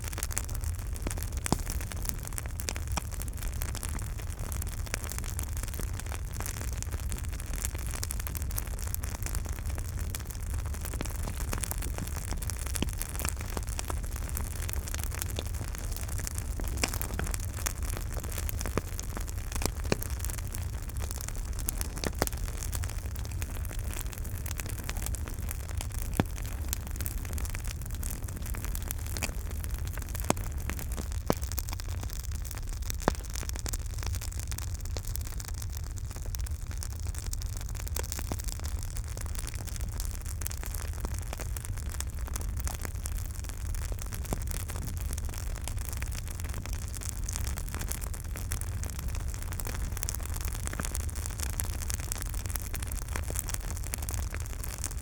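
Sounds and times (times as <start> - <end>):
campfire burning: 0.0 - 55.0
fire crackling and popping: 0.0 - 55.0.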